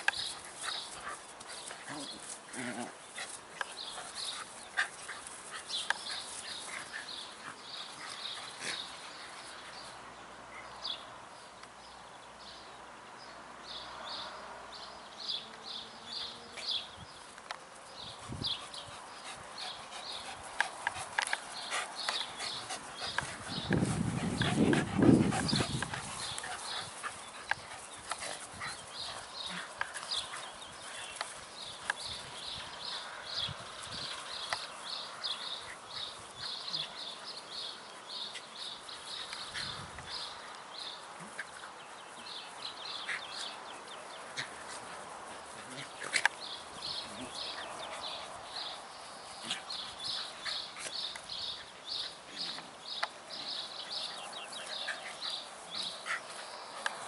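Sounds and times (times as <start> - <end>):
dogs vocalizing while playing: 0.0 - 9.9, 18.1 - 57.0.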